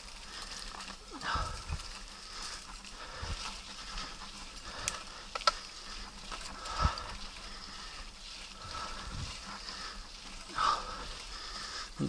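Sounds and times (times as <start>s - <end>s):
bike tyres rolling on dirt trail: 0.0s - 12.0s.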